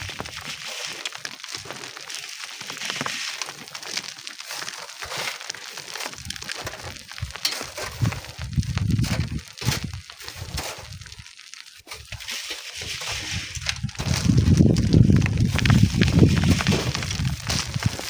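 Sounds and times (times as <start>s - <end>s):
sand and stones crunching: 0.0s - 18.0s.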